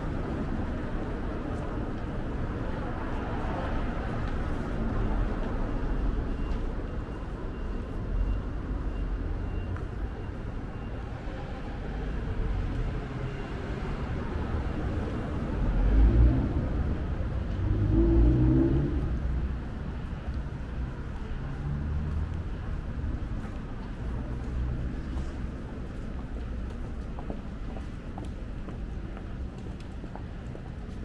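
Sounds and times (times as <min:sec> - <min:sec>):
cars driving past: 0:00.0 - 0:31.0.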